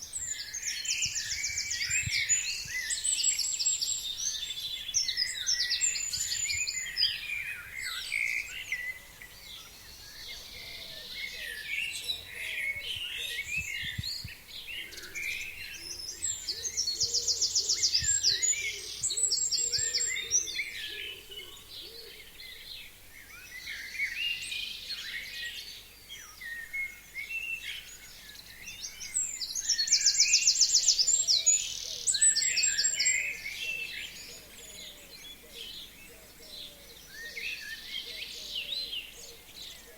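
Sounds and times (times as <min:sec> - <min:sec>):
songbird chorus: 0:00.0 - 0:39.9.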